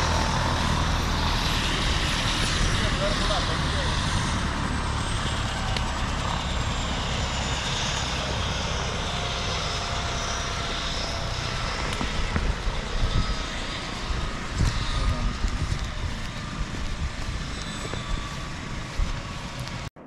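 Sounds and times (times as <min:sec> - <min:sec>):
helicopter rotor noise: 0:00.0 - 0:20.0
helicopter turbine whine: 0:00.0 - 0:20.0.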